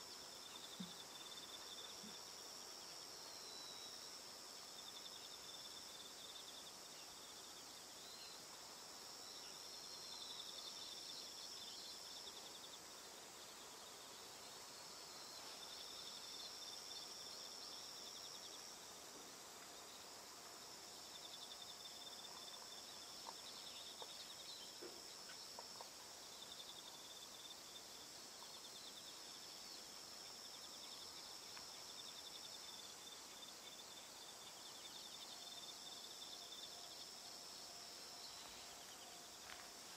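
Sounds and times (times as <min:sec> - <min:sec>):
insects trilling: 0:00.0 - 0:39.9
soft outdoor hiss: 0:00.0 - 0:39.9.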